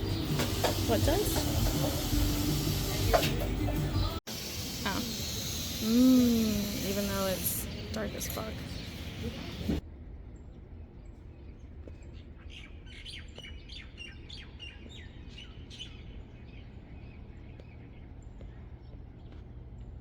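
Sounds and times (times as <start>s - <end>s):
birds chirping: 0.0s - 9.8s, 11.0s - 20.0s
low background hum: 0.0s - 20.0s.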